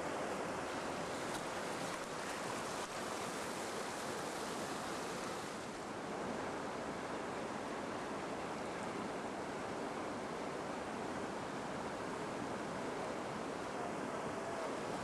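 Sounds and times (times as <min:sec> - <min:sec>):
whitewater rapids rushing: 0:00.0 - 0:15.0.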